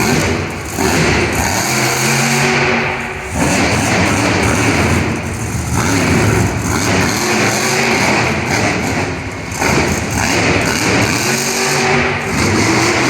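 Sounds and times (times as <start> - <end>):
truck engine revving loudly: 0.0 - 13.0.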